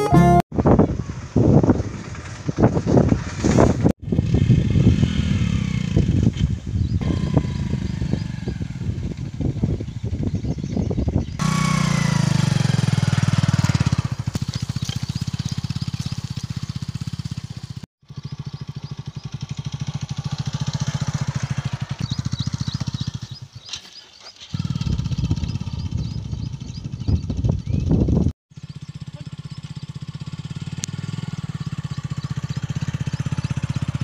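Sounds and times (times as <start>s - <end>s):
motorcycle engine running: 0.0s - 23.6s, 24.5s - 34.0s.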